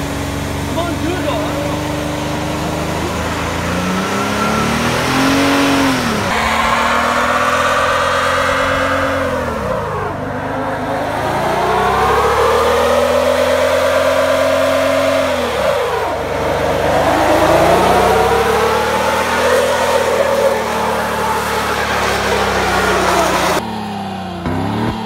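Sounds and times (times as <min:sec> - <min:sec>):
engines revving hard: 0:00.0 - 0:25.0
wheels spinning: 0:00.0 - 0:25.0.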